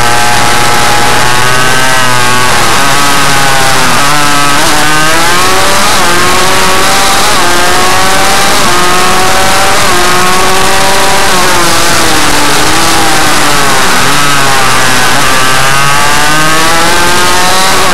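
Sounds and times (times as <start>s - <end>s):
two-stroke engine revving: 0.0s - 17.9s.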